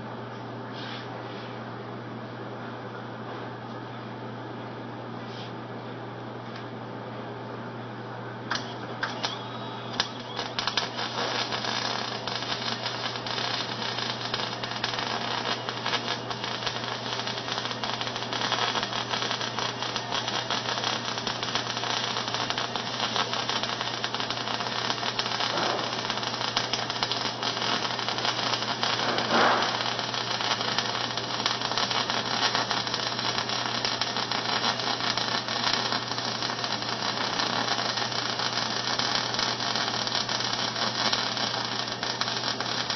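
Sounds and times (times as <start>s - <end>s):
steady low hum: 0.0s - 42.9s
welding arc crackling and sizzling: 8.5s - 42.9s.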